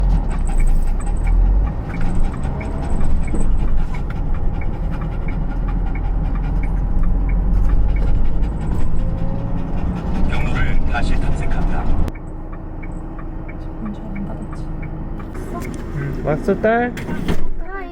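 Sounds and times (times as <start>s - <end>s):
vehicle rumbling underway: 0.0s - 17.9s.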